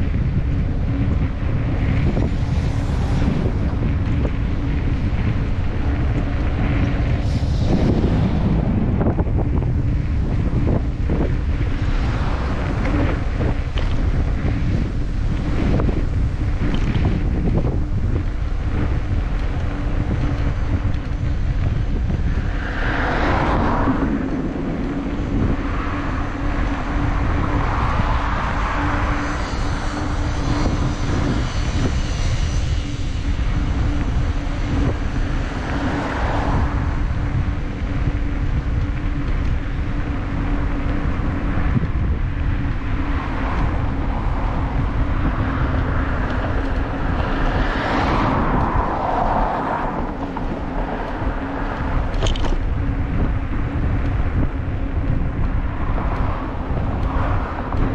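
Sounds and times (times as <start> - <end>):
steady low hum: 0.0 - 57.9
vehicles passing: 0.0 - 57.9
wind rumbling on microphone: 0.0 - 57.9.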